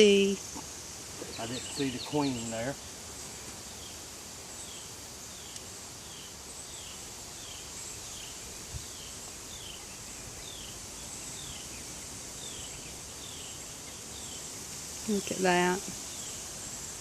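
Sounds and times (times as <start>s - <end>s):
insect chorus hissing: 0.0s - 17.0s.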